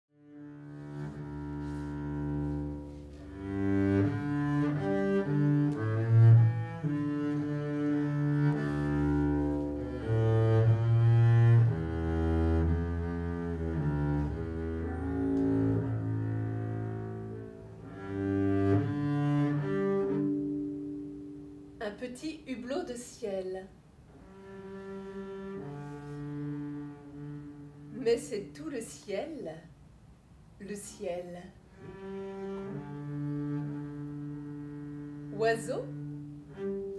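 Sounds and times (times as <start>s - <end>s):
bowed double bass melody: 0.1s - 22.4s, 23.9s - 28.7s, 31.6s - 36.9s.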